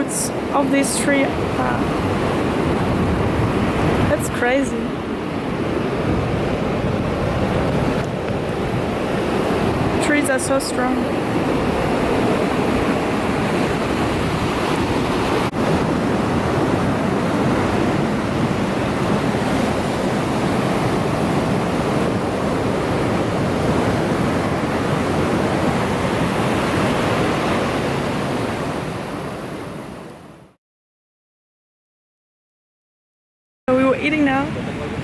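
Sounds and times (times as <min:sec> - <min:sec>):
ocean surf rushing: 0:00.0 - 0:30.6, 0:33.7 - 0:35.0.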